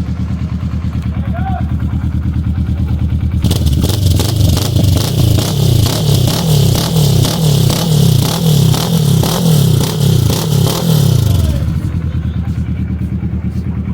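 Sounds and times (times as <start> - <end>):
motorcycle engine idling: 0.0 - 13.9
motorcycle engine revving: 1.7 - 13.9.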